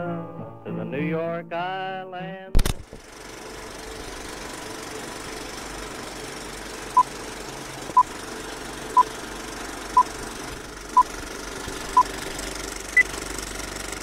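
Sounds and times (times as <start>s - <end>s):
mechanical projector clatter: 2.6s - 14.0s.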